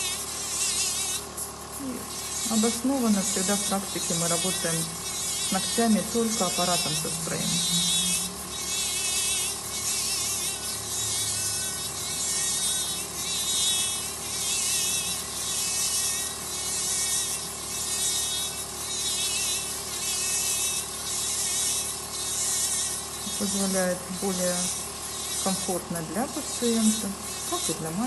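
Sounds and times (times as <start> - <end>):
drill high whine: 0.0 - 28.0.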